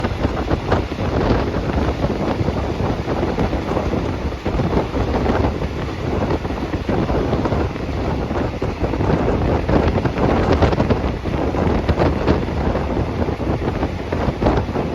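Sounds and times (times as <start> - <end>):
train rumble: 0.0 - 14.9
wind noise: 0.0 - 14.9.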